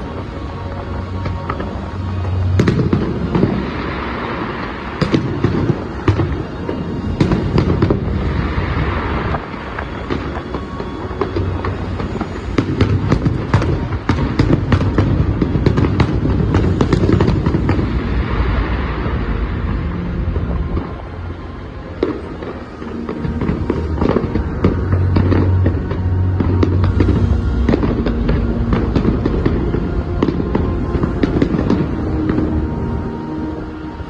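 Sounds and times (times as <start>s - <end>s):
fireworks cracks and booms: 0.0s - 34.0s.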